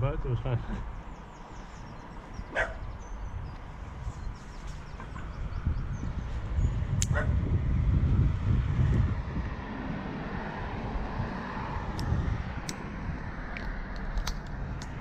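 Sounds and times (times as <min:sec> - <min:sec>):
road traffic: 0:00.0 - 0:15.0
wind: 0:00.0 - 0:15.0.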